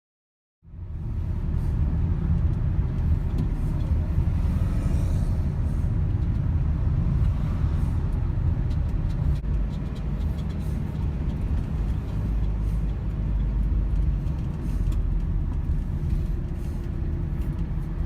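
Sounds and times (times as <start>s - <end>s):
vehicle road and wind noise: 0.6s - 18.0s.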